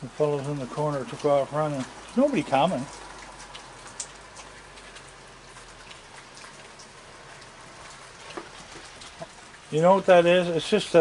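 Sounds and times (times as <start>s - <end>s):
steady rain hiss: 0.0s - 11.0s
drops ticking on wooden deck: 0.4s - 10.1s.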